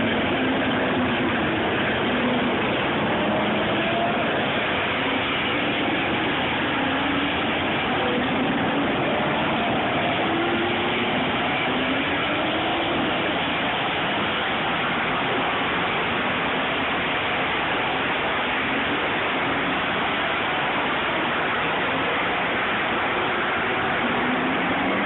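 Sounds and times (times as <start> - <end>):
distant race car engines: 0.0 - 25.0.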